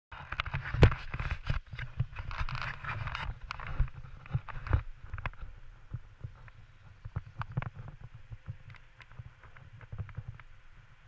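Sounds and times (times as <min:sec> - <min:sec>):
scraping rustle: 0:00.2 - 0:10.6.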